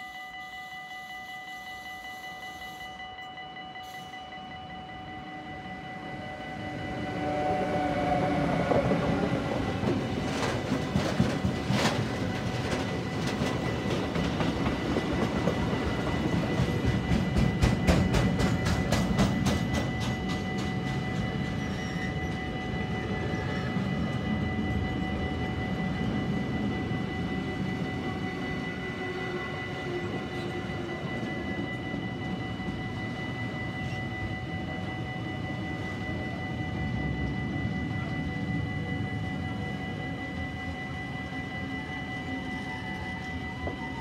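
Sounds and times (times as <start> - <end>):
high ringing tone: 0.0 - 44.0
train wheels rumbling on rails: 5.2 - 44.0.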